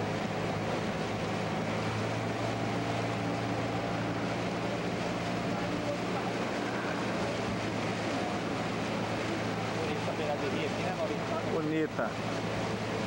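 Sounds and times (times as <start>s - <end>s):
motorboat engine humming: 0.0s - 13.0s
water rushing: 0.0s - 13.0s
wind: 0.0s - 13.0s.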